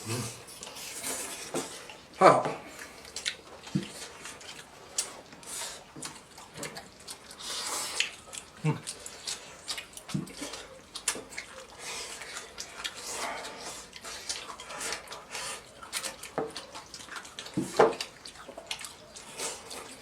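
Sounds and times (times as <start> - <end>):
wet chewing and lip smacking: 0.0 - 20.0.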